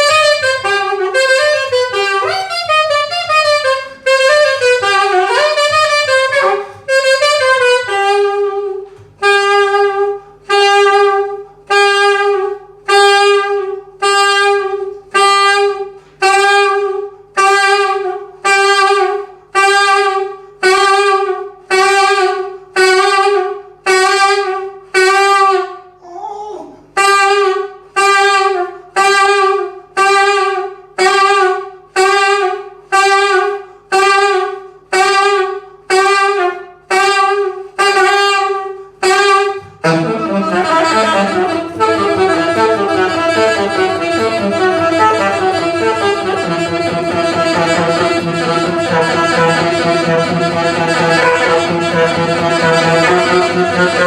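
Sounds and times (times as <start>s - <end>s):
saxophone playing jazz: 0.0s - 26.0s, 26.8s - 54.0s.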